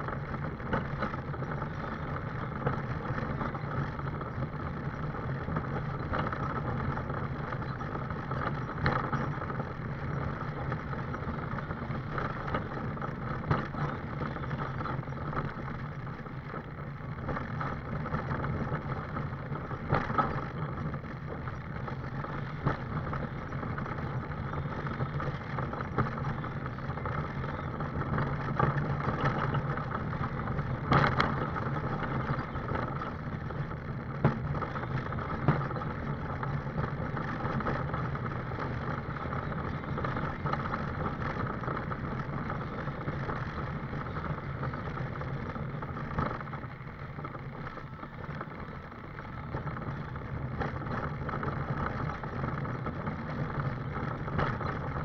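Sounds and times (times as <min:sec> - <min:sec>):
scooter motor hum: 0:00.0 - 0:55.0
wheels rolling on tarmac: 0:00.0 - 0:55.0.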